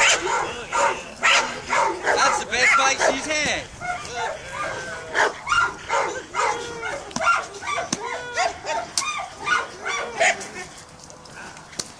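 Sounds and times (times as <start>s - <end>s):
dogs barking and yelping: 0.0s - 11.6s.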